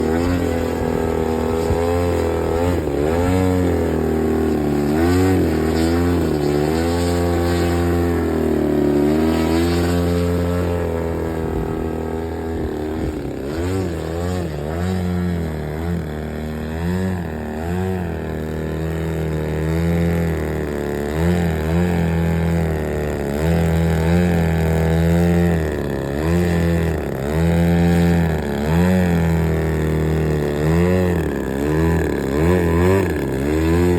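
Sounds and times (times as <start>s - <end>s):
engine revving: 0.0s - 33.9s.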